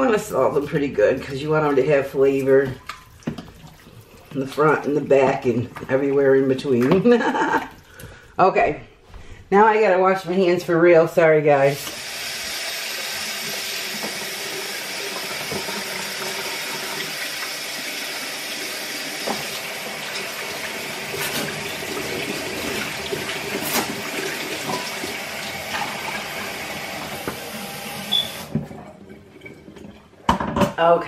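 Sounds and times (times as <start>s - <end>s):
tap water running: 0.0s - 8.3s, 10.6s - 31.0s.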